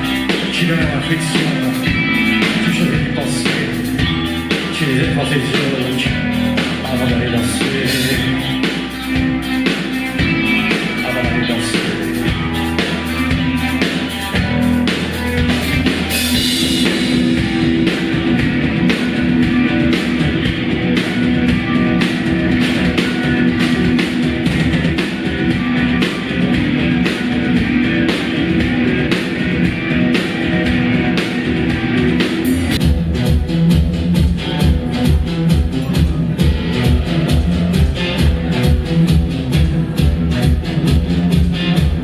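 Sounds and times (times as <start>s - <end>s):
rock music with guitar and drums: 0.0s - 42.0s.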